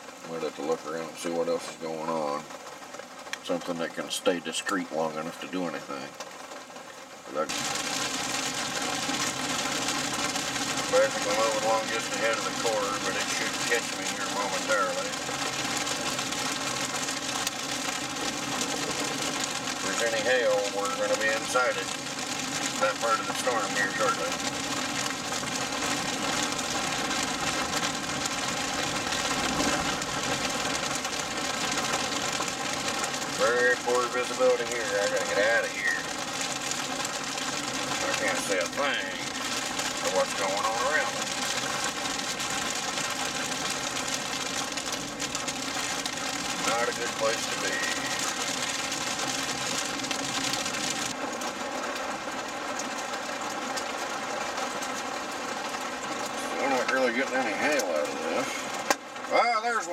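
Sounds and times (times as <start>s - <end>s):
car engine and road noise: 0.0s - 59.9s
rain on windshield: 0.0s - 59.9s.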